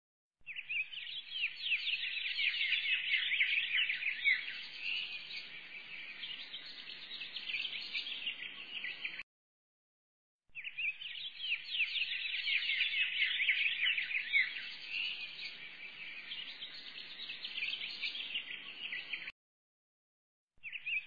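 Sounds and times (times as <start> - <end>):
small birds chirping: 0.4 - 9.2, 10.5 - 19.3, 20.6 - 21.0.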